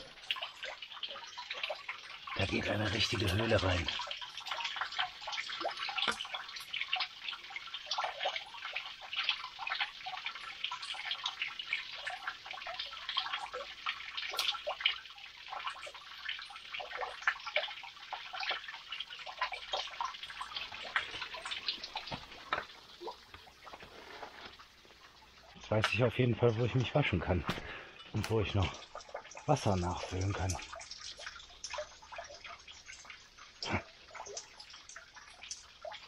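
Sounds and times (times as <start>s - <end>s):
water trickling and dripping: 0.0s - 36.0s.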